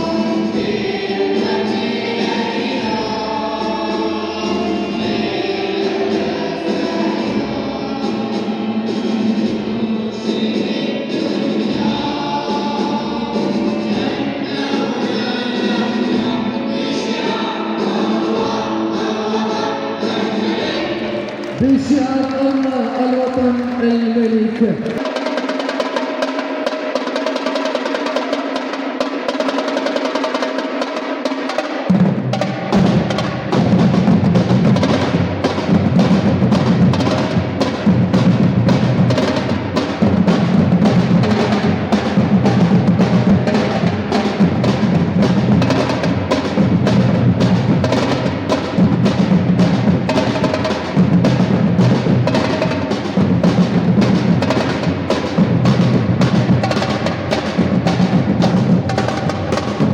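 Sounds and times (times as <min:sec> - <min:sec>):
drums playing fast rhythm: 0:00.0 - 0:16.4, 0:21.0 - 0:59.9.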